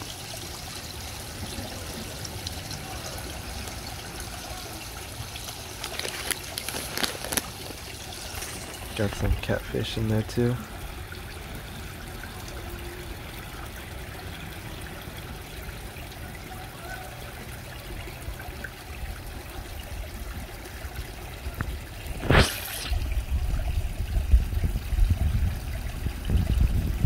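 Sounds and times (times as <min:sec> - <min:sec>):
pond pumps running: 0:00.0 - 0:27.0
water trickling in pond: 0:00.0 - 0:27.0.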